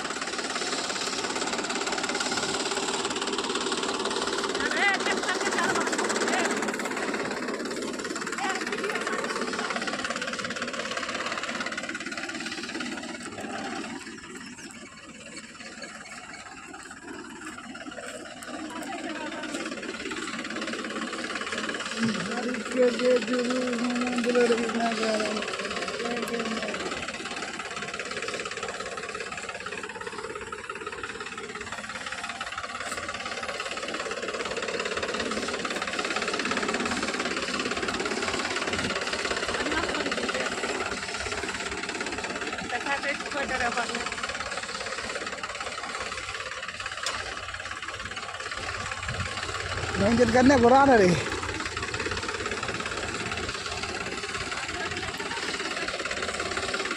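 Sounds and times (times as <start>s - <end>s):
tractor engine knocking: 0.0s - 56.9s.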